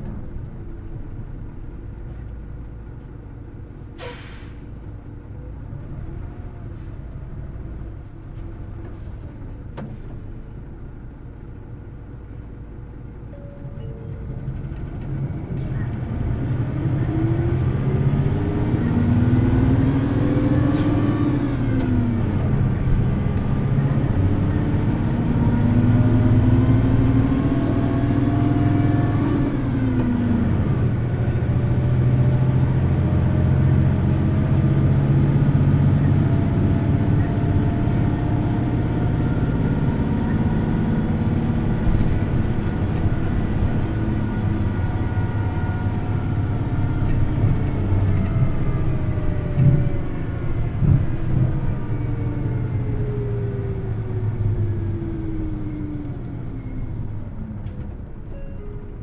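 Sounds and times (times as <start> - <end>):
bus diesel engine at high revs: 0.0 - 59.0.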